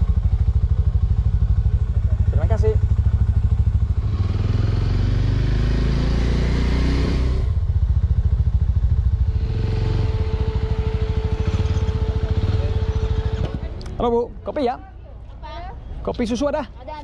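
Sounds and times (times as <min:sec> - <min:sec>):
small motorcycle engine accelerating: 0:00.0 - 0:13.8.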